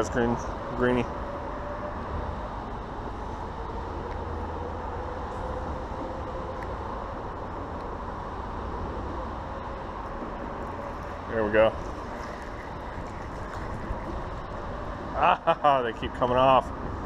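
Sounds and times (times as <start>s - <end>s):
distant road traffic hum: 0.0s - 17.0s
faint droning tone: 0.0s - 17.0s.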